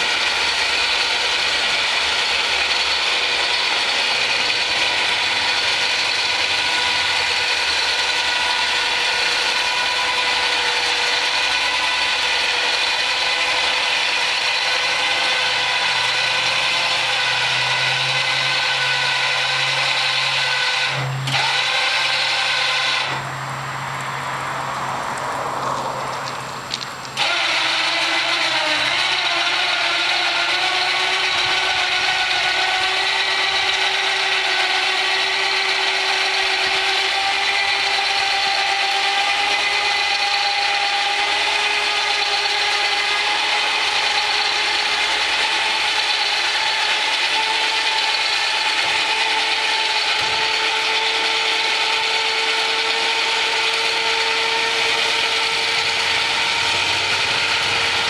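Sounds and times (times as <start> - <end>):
electric winch whining: 0.0 - 58.0.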